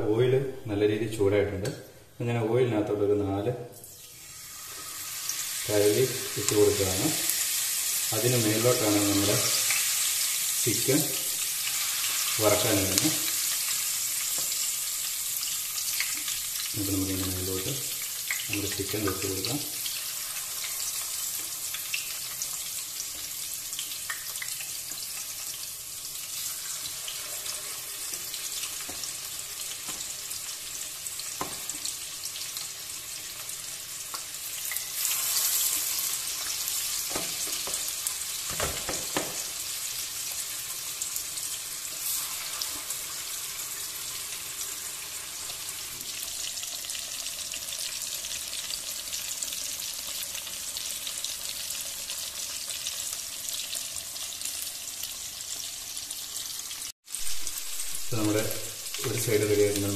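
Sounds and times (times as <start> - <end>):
chicken sizzling in hot oil: 3.8 - 59.9.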